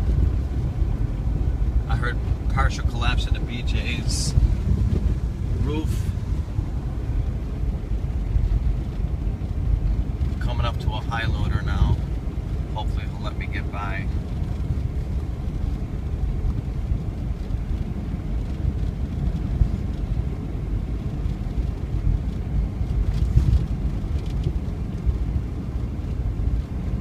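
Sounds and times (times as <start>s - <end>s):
vehicle driving on snowy road: 0.0s - 27.0s.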